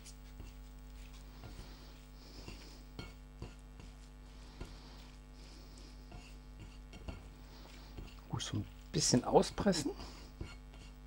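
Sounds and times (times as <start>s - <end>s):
soft rustling of grated vegetables: 0.0s - 11.0s.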